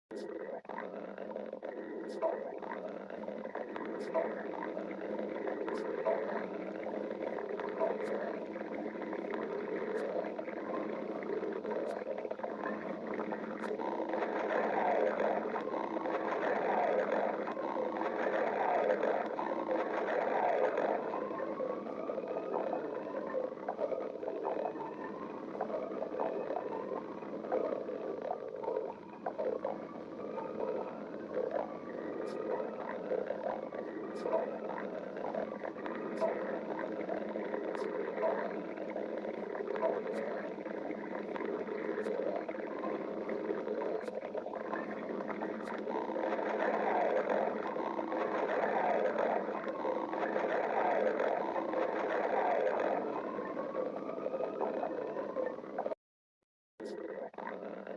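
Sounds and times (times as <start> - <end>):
stomach growling: 0.1 - 56.0, 56.8 - 57.9.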